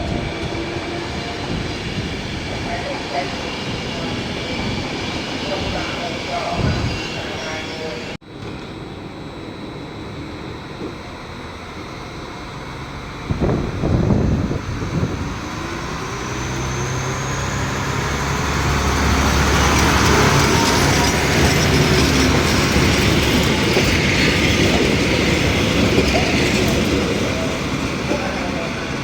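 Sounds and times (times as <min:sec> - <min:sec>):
train running on tracks: 0:00.0 - 0:29.0.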